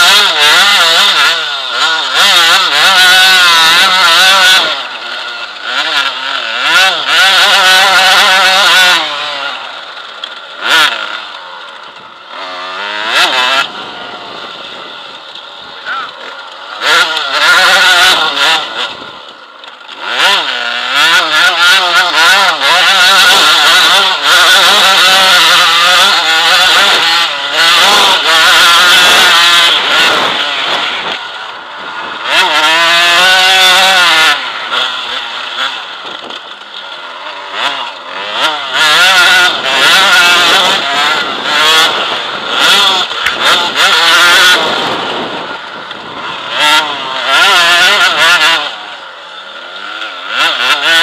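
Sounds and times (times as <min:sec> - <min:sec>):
knocks and rattles from rough ground: 0:00.0 - 0:48.9
motorcycle engine revving: 0:00.0 - 0:51.0.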